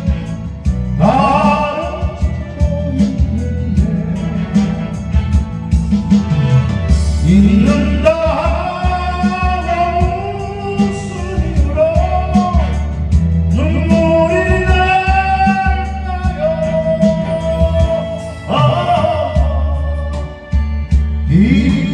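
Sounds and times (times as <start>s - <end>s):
backing track with steady bass: 0.0s - 21.9s
person singing a slow ballad: 0.0s - 21.9s.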